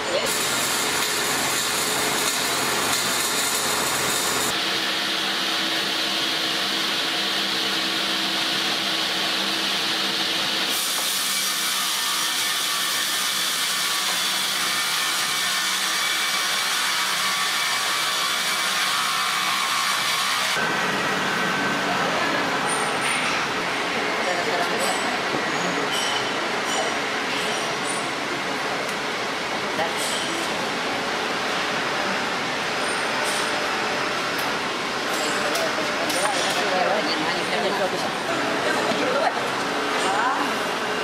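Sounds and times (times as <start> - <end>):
sawmill machinery running: 0.0 - 41.0.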